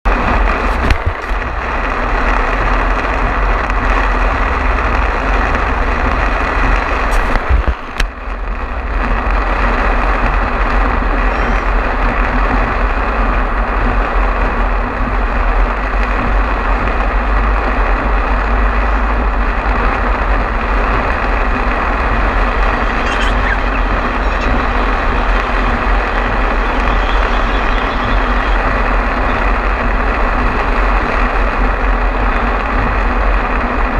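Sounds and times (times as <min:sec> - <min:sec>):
heavy rain: 0:00.0 - 0:33.9
vehicle driving on wet road: 0:00.0 - 0:33.9.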